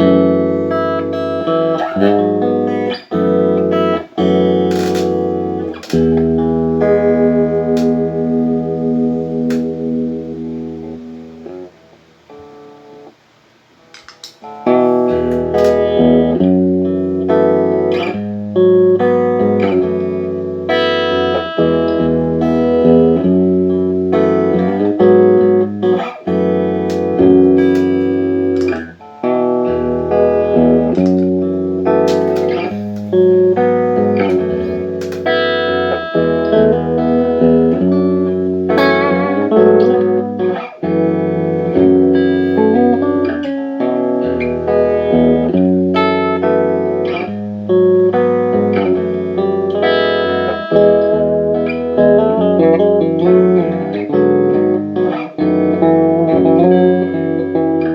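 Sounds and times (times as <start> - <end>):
electric guitar chords and notes: 0.0 - 57.9.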